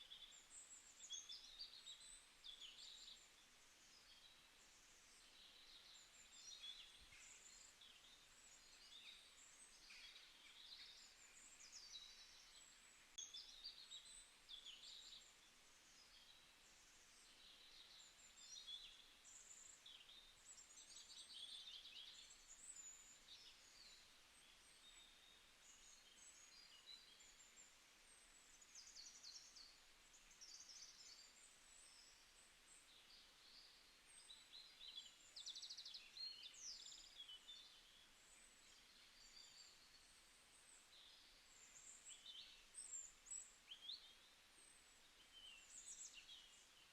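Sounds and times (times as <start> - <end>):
light background hiss: 0.0 - 46.9
small birds chirping and trilling: 0.0 - 46.9.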